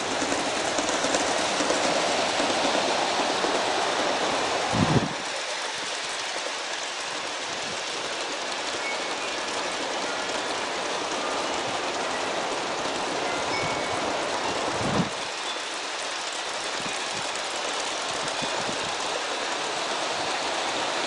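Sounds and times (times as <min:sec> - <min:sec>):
model train wheels rolling on rails: 0:00.0 - 0:21.0.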